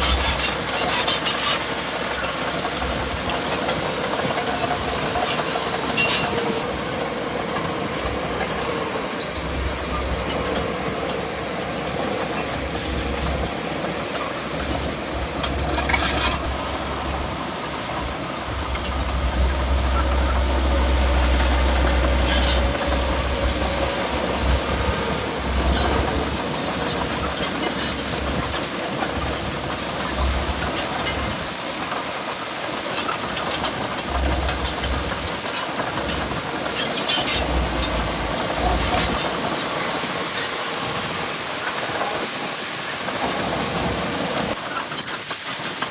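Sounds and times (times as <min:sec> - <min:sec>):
heavy diesel machinery rumbling: 0:00.0 - 0:45.9
steel tracks clanking: 0:00.0 - 0:45.9.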